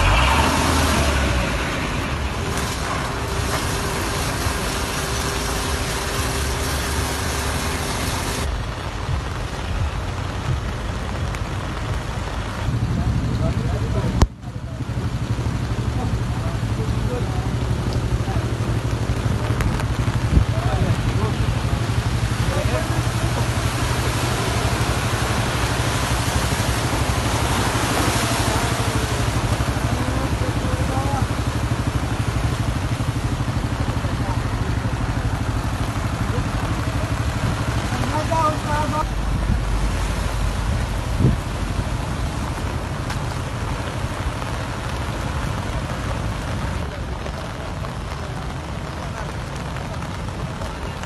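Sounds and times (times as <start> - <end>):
heavy rain: 0.0 - 51.0
rushing hiss of floodwater: 0.0 - 51.0
vehicle engine low rumble: 0.0 - 51.0.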